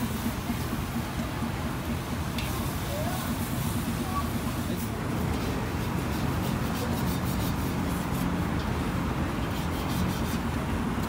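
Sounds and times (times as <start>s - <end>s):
street food stall din: 0.0s - 11.0s.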